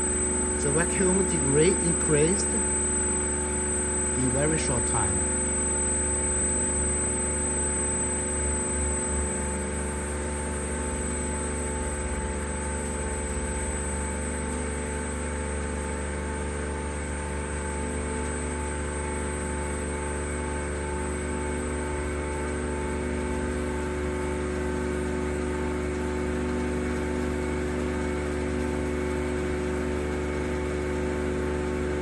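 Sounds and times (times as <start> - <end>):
vacuum pump humming: 0.0 - 32.0.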